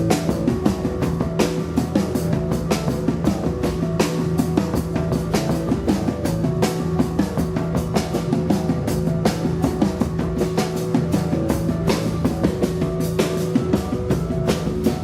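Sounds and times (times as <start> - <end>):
fast drum beat: 0.0 - 15.0
rock band playing: 0.0 - 15.0.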